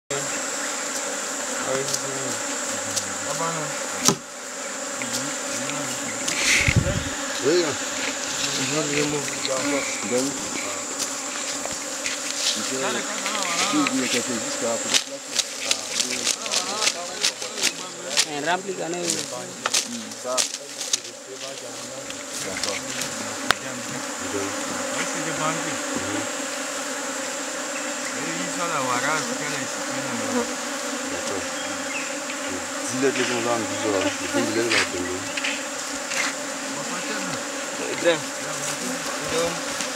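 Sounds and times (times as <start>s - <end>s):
bee buzzing past: 0.1s - 39.9s
swarm of bees buzzing: 0.1s - 39.9s.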